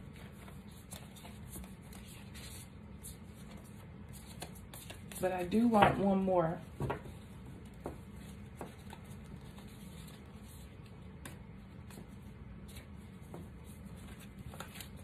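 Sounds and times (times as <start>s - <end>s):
low room hum: 0.0s - 15.0s
cards being shuffled: 0.1s - 5.9s, 7.0s - 15.0s.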